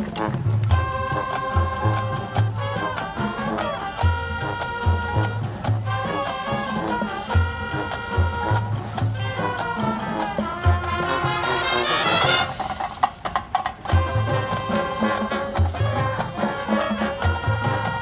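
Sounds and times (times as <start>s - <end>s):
marching band playing swing: 0.0s - 18.0s.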